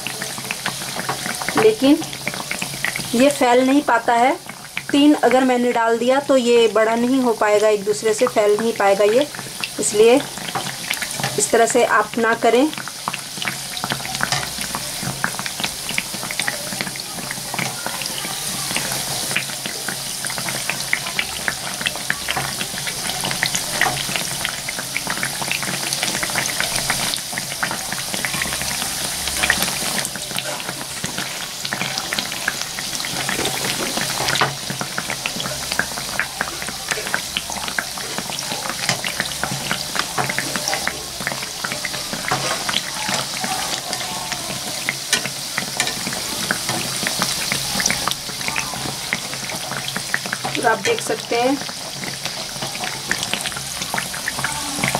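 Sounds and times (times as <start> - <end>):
batter deep-frying in hot oil: 0.0 - 54.9.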